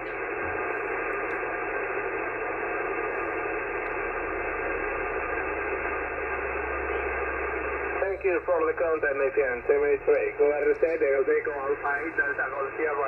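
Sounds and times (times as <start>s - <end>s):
radio band noise hiss: 0.0s - 13.0s.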